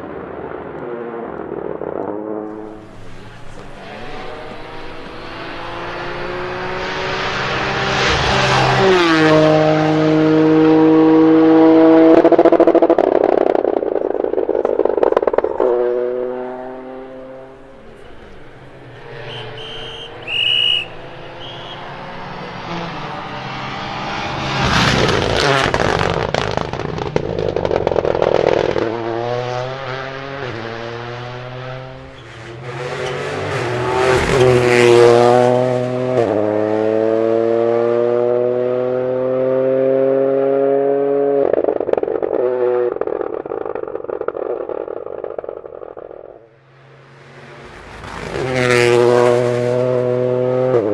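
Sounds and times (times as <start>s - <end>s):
tyre and road noise: 0.0s - 50.9s
rally car engine shifting gears: 0.7s - 50.9s.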